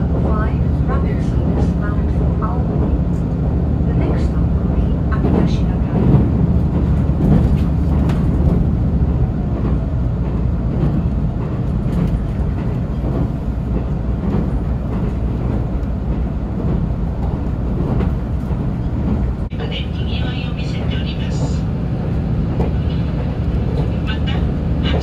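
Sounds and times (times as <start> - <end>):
diesel train rumbling on rails: 0.0 - 25.0.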